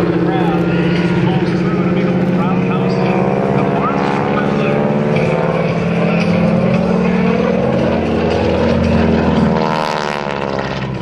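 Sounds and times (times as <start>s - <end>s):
radial engine propeller plane passing: 0.0s - 11.0s.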